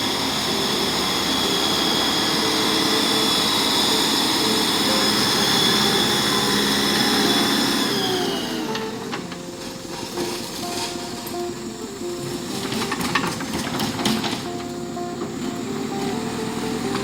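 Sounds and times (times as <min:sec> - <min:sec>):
diesel engine running: 0:00.0 - 0:17.0
high whine: 0:00.0 - 0:17.0.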